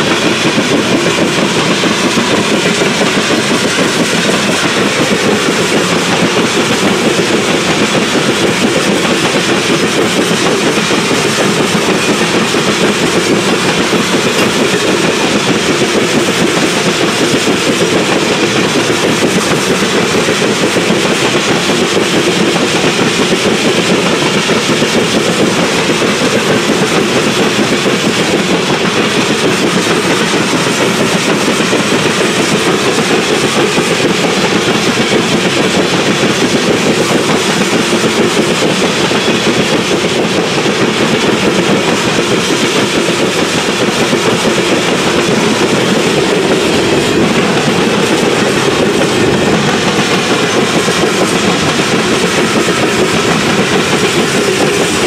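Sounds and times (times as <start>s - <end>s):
clickety-clack over rail joints: 0.0s - 55.0s
train wheels on rails: 0.0s - 55.0s.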